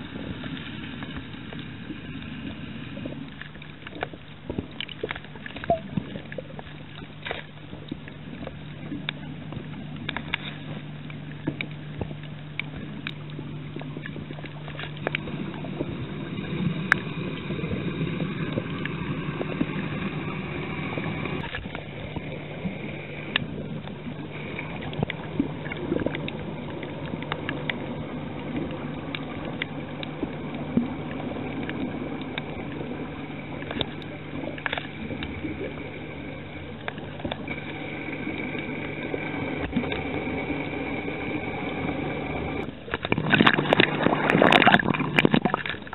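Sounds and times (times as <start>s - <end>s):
low underwater hum: 0.0s - 45.9s
sharp clicks and crackles: 0.1s - 22.5s, 23.1s - 45.9s.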